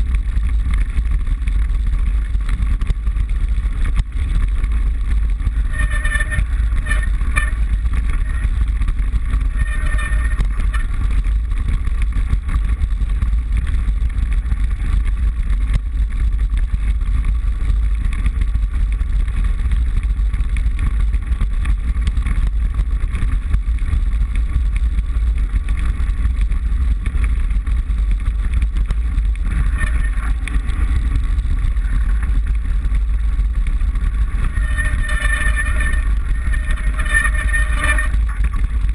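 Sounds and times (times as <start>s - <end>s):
wind and bike vibration rumble: 0.0s - 38.9s.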